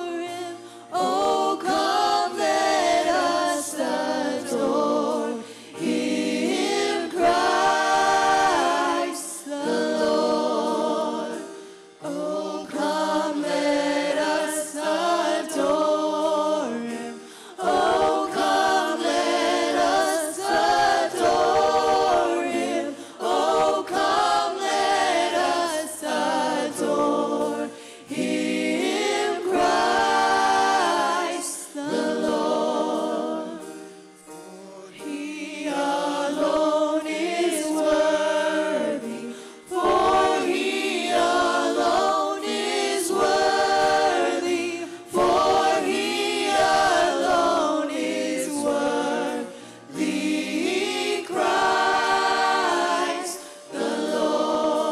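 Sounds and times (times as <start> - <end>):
group singing in harmony: 0.0 - 54.9.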